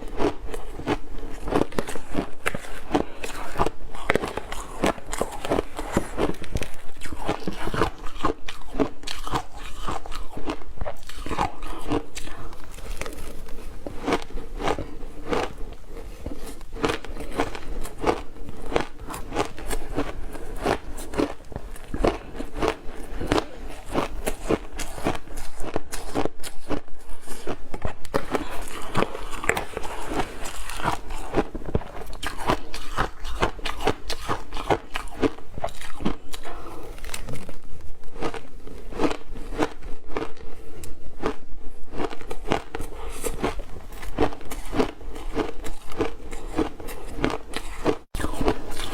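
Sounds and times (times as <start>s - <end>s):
ice being chewed: 0.0s - 48.9s.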